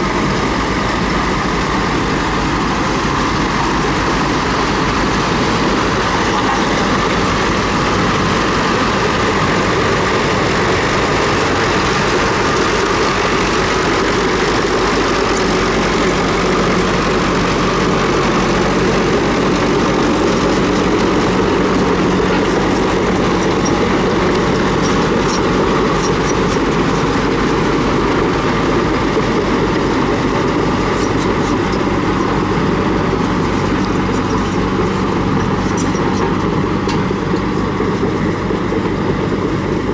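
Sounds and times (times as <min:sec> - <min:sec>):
bulldozer diesel engine: 0:00.0 - 0:39.9
steel tracks clanking: 0:00.0 - 0:39.9.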